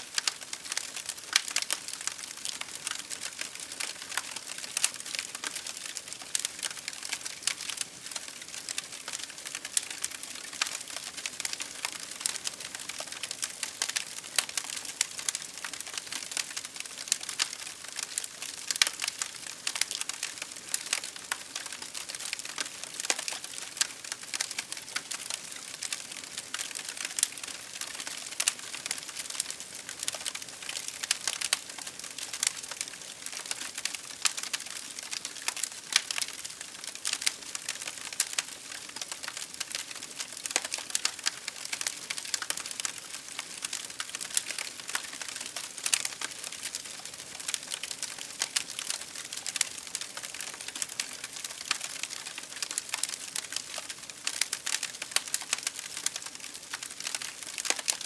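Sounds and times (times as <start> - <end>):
campfire crackling and popping: 0.1 - 58.0.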